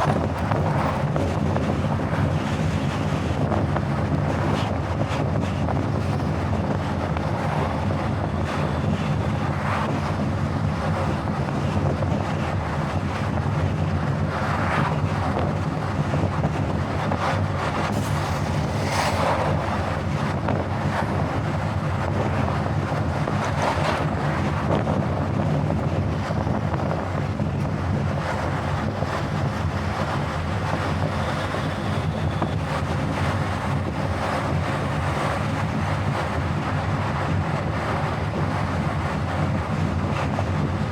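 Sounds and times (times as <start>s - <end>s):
car road and wind noise: 0.0s - 40.9s.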